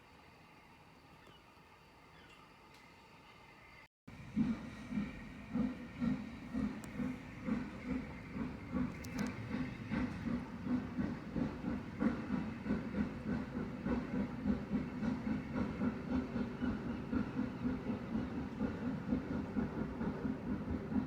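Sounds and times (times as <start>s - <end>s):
steam locomotive exhaust beat: 4.1s - 21.0s.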